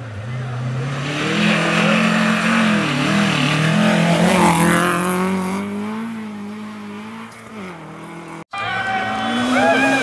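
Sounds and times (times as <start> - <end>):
rally car engine at high revs: 0.0 - 10.0.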